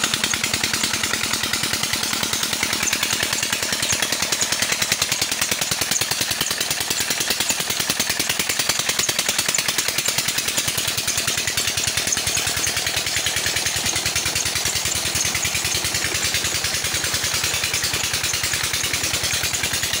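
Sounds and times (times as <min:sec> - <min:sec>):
diesel engine knocking: 0:00.0 - 0:20.0.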